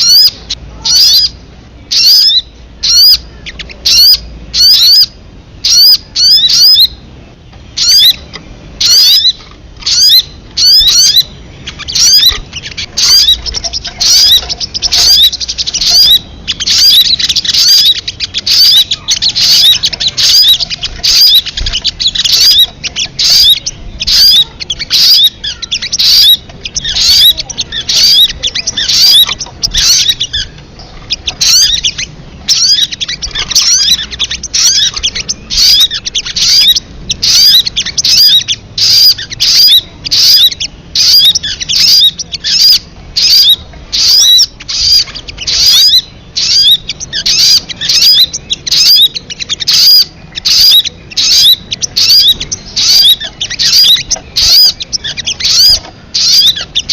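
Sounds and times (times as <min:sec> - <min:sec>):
high bird chirping calls: 0:00.0 - 0:56.9.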